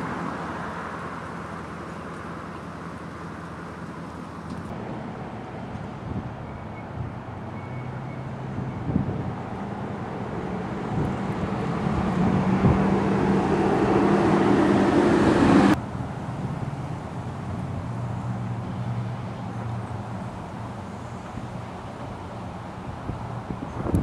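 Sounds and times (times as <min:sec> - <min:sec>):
traffic noise: 0:00.0 - 0:24.0
vehicle engine hum: 0:00.0 - 0:24.0.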